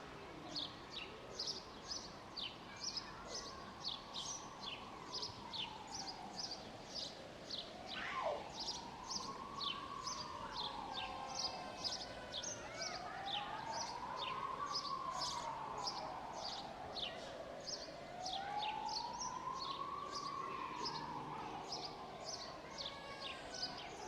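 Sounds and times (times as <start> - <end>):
small birds chirping: 0.5 - 24.0
emergency vehicle siren wailing: 4.1 - 24.0.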